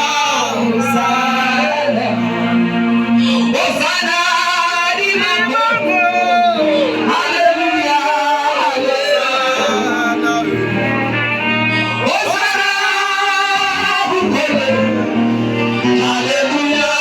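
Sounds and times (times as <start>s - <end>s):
instrumental backing: 0.0s - 17.0s
person singing long held notes: 0.0s - 17.0s.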